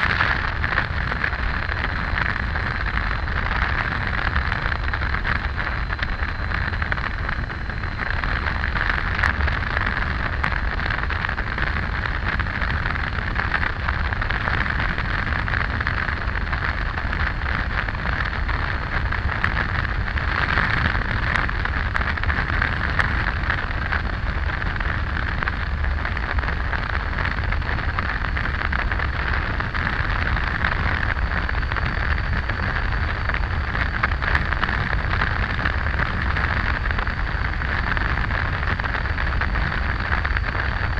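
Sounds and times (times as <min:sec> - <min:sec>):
wind beating on microphone: 0:00.0 - 0:40.9.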